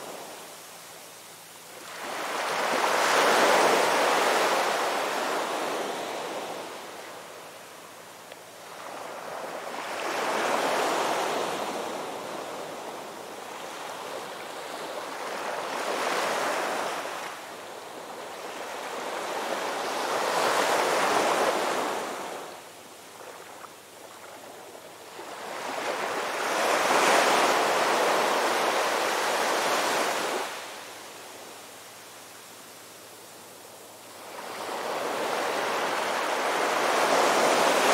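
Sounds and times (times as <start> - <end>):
ocean waves breaking on beach: 1.7 - 8.0, 8.6 - 37.9.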